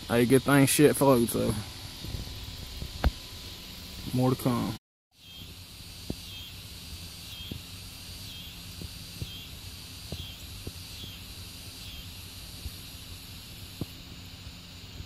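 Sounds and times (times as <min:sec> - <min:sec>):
insects buzzing chorus: 0:00.0 - 0:15.0
low steady hum: 0:00.0 - 0:15.0.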